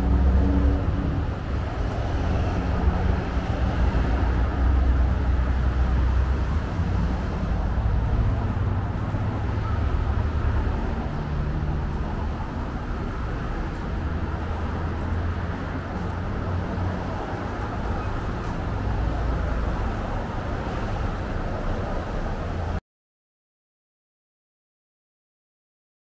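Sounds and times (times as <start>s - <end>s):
street traffic rumble: 0.0s - 22.8s.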